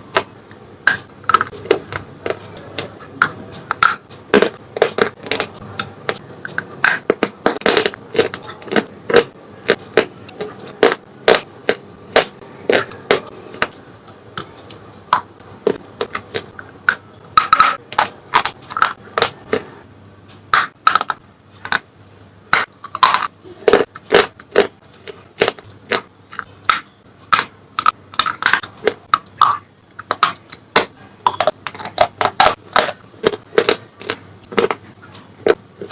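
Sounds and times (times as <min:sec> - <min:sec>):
slate pencils crunching: 0:00.0 - 0:19.7, 0:22.5 - 0:35.9.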